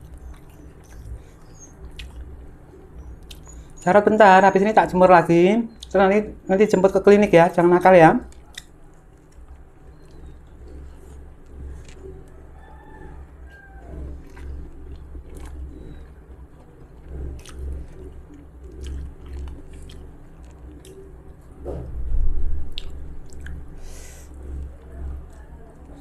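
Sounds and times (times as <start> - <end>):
person chewing food: 0.0 - 3.8, 8.2 - 26.0
steady low hum: 0.0 - 26.0.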